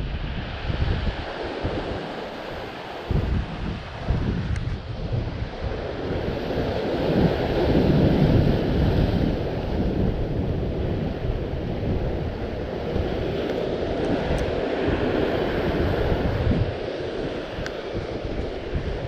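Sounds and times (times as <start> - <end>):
ocean surf: 0.0 - 19.0
wind buffeting microphone: 0.0 - 19.0.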